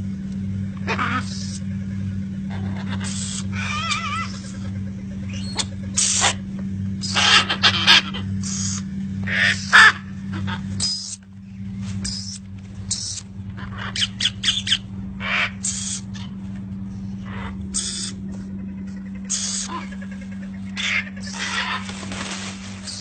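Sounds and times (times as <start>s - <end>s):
steady low hum: 0.0s - 23.0s
birds cawing: 0.4s - 23.0s.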